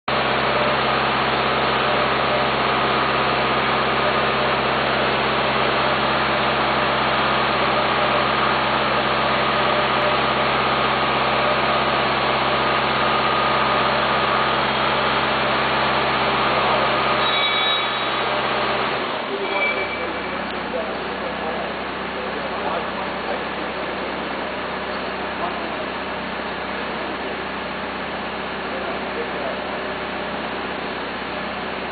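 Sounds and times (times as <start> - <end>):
machine hum with steady tones: 0.1 - 31.9.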